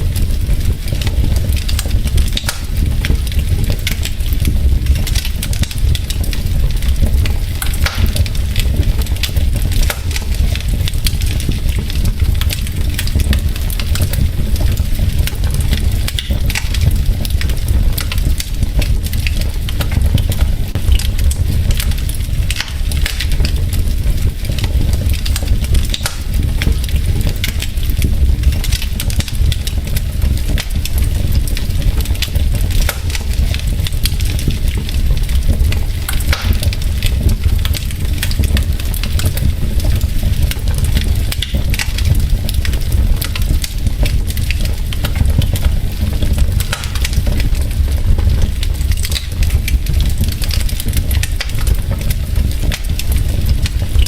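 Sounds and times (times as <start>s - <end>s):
low fire rumble: 0.0s - 54.0s
wood logs crackling in fireplace: 0.0s - 54.0s.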